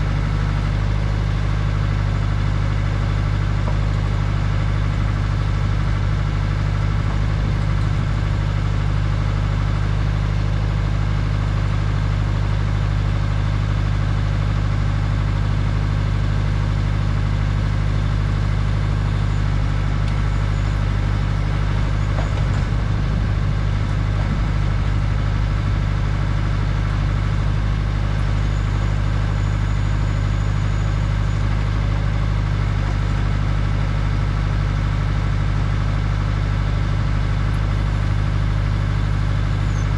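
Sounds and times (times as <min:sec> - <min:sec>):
drilling rig engine running: 0:00.0 - 0:39.9.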